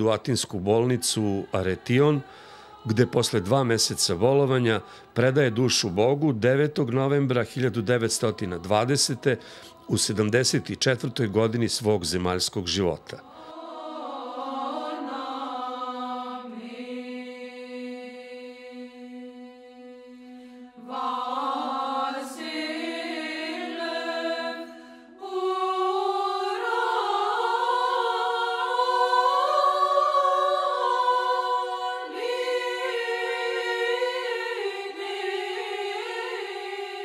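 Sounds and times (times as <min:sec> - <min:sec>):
choir chanting unaccompanied: 0:00.0 - 0:37.0.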